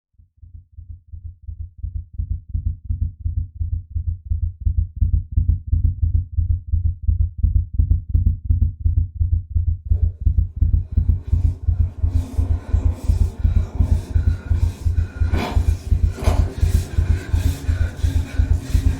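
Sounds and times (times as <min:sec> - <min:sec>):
heartbeat-like low thumping: 0:00.2 - 0:18.9.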